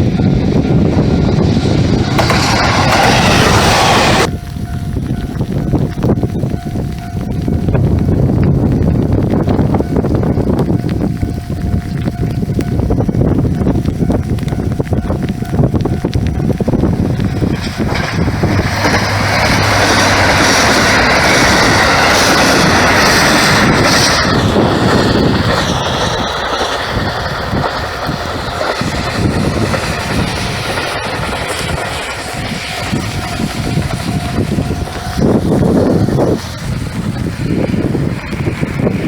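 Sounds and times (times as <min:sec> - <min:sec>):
diesel train passing: 0:00.0 - 0:39.0.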